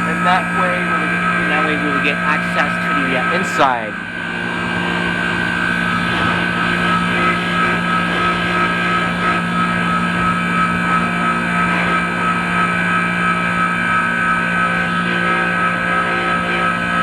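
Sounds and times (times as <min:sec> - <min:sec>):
high-pitched steady tones: 0:00.0 - 0:17.0
ice machine humming: 0:00.0 - 0:17.0.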